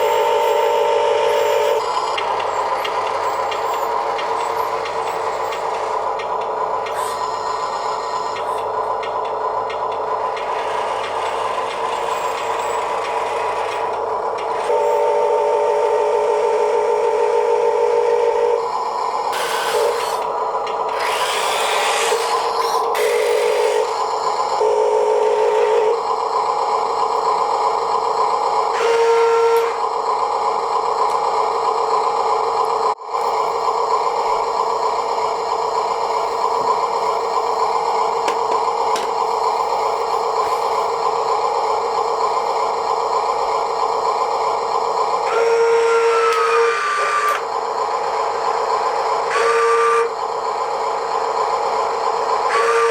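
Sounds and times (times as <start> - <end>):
electric motors and gearboxes whining: 0.0 - 52.9.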